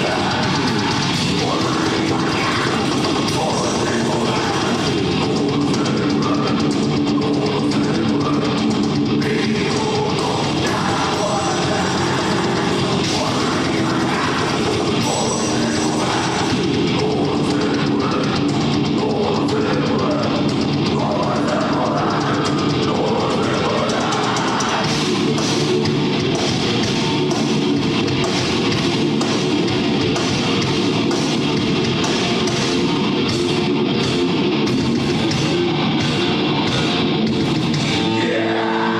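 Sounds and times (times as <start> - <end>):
distorted electric guitars: 0.0 - 38.9
drum kit: 0.0 - 38.9
vocals: 0.0 - 38.9.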